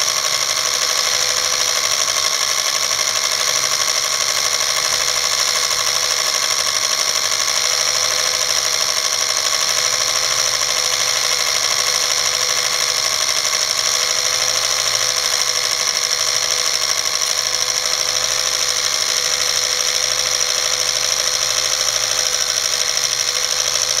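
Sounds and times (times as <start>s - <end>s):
film projector clattering: 0.0s - 24.0s.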